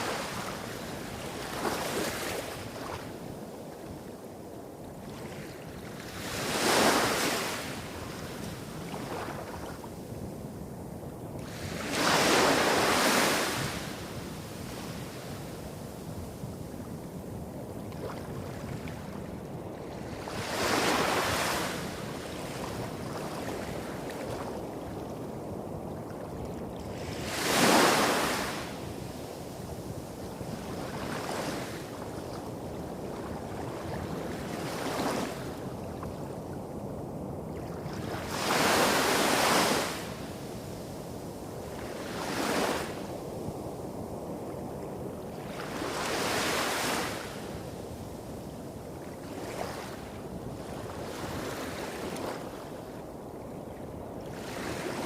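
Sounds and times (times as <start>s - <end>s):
small waves washing up a beach: 0.0s - 55.0s.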